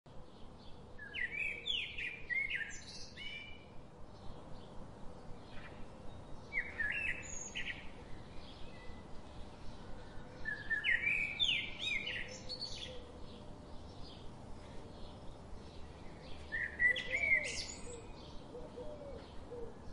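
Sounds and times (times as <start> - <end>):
faint steady hum: 0.1 - 19.9
birds chirping: 0.3 - 19.9.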